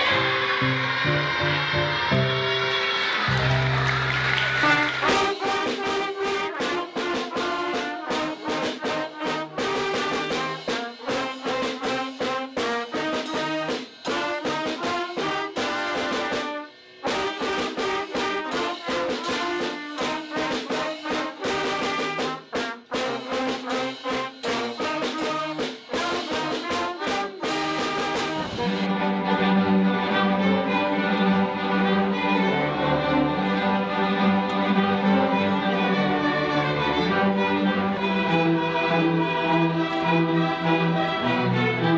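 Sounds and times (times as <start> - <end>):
wind ensemble playing a tune: 4.3 - 41.9.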